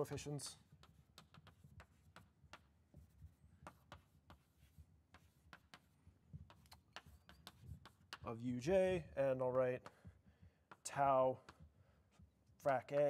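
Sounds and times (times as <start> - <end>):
chalk tapping and scratching on blackboard: 0.0 - 13.0.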